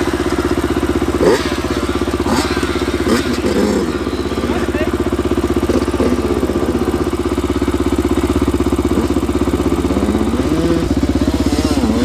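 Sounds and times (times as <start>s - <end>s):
dirt bike engine idling: 0.0s - 12.0s
motorbike engine revving: 0.0s - 12.0s.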